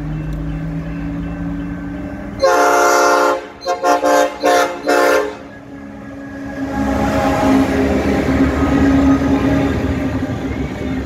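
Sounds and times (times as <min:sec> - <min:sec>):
locomotive engine rumble: 0:00.0 - 0:11.0
locomotive horn blasts: 0:00.2 - 0:09.4.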